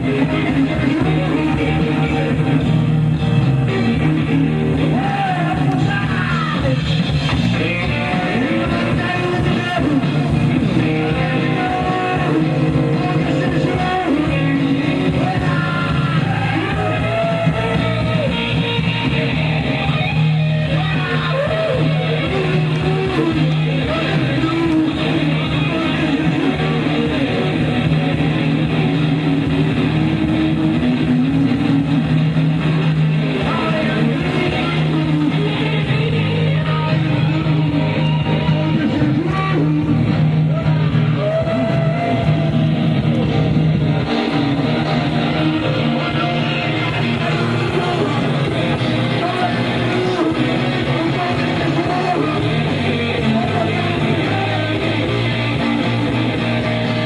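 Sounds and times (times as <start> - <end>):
blues-rock band playing: 0.0 - 57.0
electric guitar with bending notes: 0.0 - 57.0.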